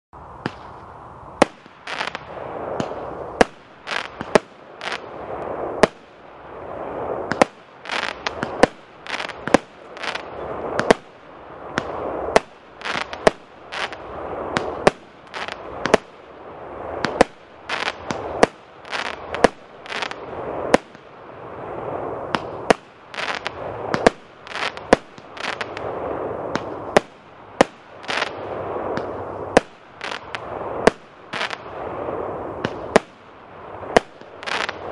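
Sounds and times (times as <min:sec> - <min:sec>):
fireworks hissing: 0:00.5 - 0:06.2, 0:06.8 - 0:21.1, 0:21.7 - 0:34.9
fireworks bangs: 0:01.4 - 0:34.9.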